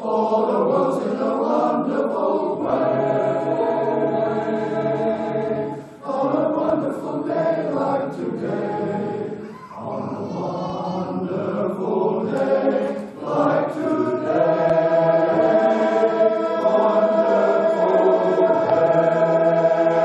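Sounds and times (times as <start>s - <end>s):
men's chorus singing in harmony: 0.0s - 20.0s.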